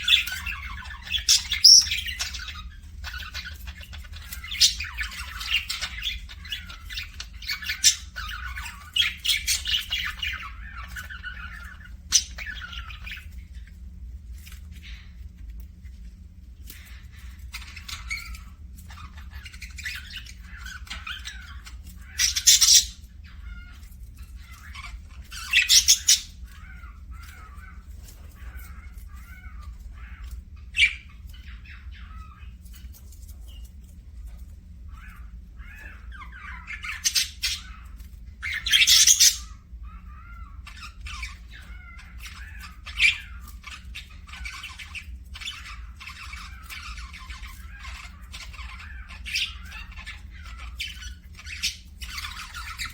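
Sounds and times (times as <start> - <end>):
parakeets chattering and warbling: 0.0 - 52.9.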